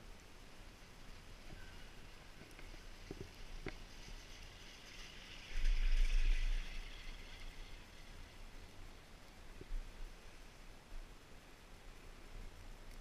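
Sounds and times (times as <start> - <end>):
chairlift rumble and whir: 0.0 - 11.4.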